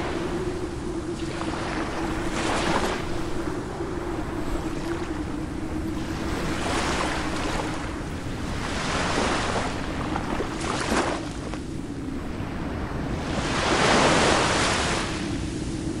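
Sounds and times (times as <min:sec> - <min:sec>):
sea waves rushing: 0:00.0 - 0:16.0.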